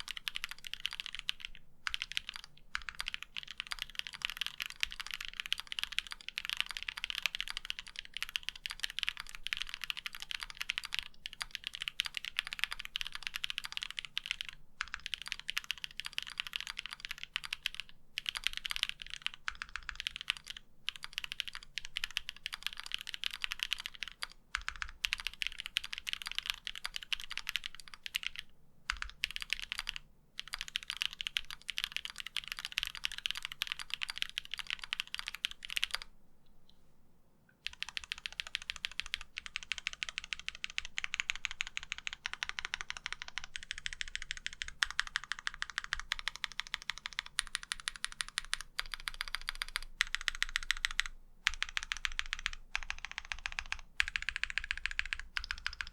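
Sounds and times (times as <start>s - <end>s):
typing on mechanical keyboard: 0.0s - 36.1s, 37.6s - 55.9s.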